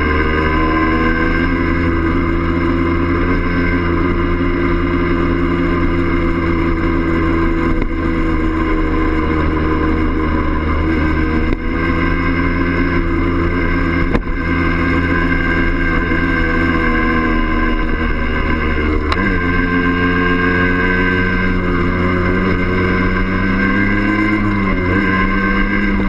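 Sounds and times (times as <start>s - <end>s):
moped engine running: 0.0s - 26.0s.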